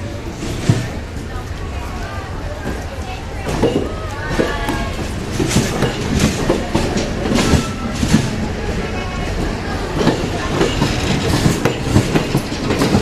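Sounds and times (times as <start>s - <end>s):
train wheels clattering over rails: 0.0s - 13.0s.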